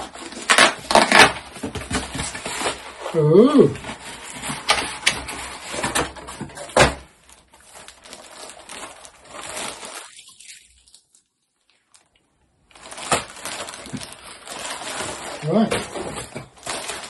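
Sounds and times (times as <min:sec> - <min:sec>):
packaging rustling and crinkling: 0:00.0 - 0:12.1, 0:12.7 - 0:17.0.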